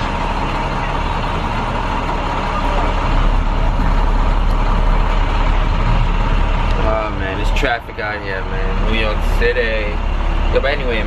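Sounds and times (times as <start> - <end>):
diesel bus engine rumbling: 0.0 - 11.0
road noise: 0.0 - 11.0.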